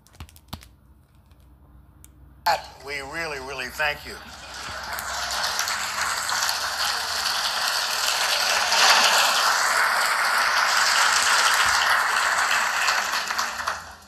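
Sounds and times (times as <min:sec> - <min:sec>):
audience applauding: 0:02.5 - 0:14.0.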